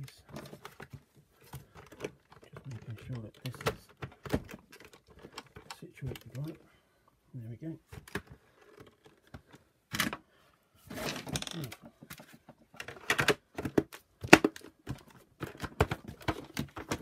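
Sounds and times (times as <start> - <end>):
plastic parts clicking and knocking: 0.0 - 6.6, 7.8 - 10.3, 10.9 - 17.0.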